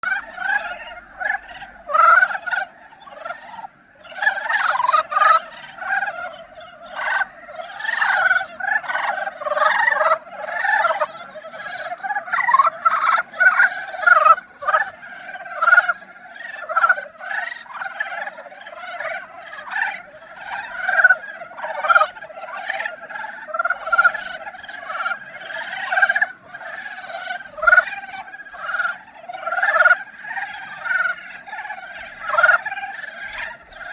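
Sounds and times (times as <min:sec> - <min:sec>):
chorus of frogs calling: 0:00.0 - 0:33.9.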